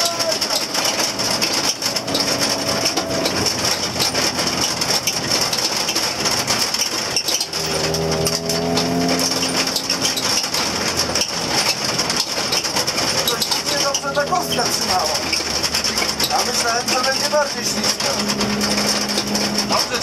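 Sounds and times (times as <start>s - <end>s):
rally car engine: 0.0s - 20.0s
stones rattling against underbody: 0.0s - 20.0s.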